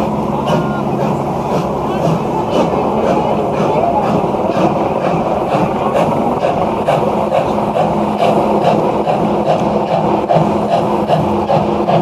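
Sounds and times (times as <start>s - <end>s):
steam locomotive chuffing: 0.0s - 12.0s.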